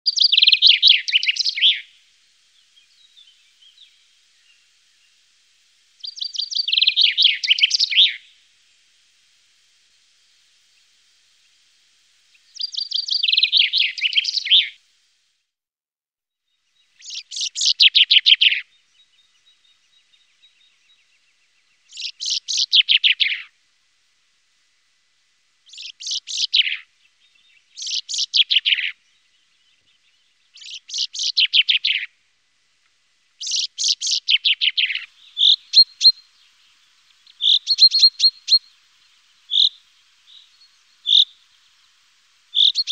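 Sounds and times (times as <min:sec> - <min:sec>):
chaffinch singing: 0:00.1 - 0:14.8, 0:16.7 - 0:23.6, 0:25.6 - 0:32.2, 0:33.3 - 0:42.9.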